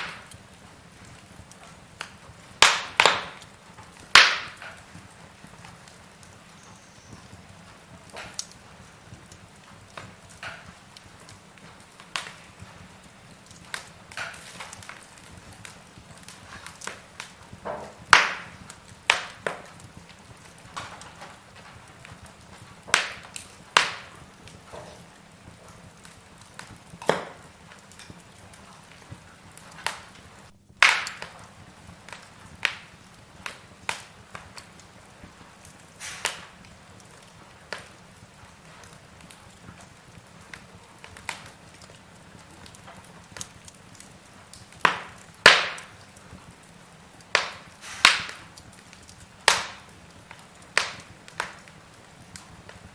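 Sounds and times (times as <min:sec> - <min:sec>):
faint steady hiss: 0:00.0 - 0:52.9
log fire crackling and popping: 0:00.0 - 0:52.9.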